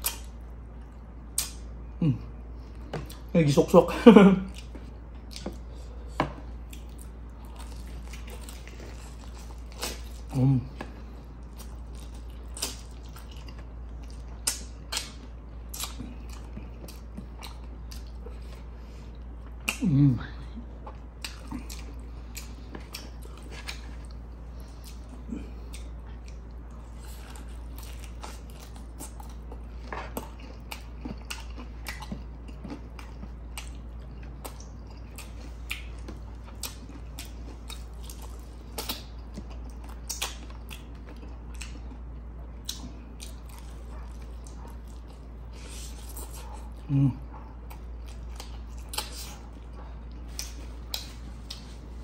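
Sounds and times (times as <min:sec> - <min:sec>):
person chewing food: 0:00.0 - 0:52.0
steady low hum: 0:00.0 - 0:52.0.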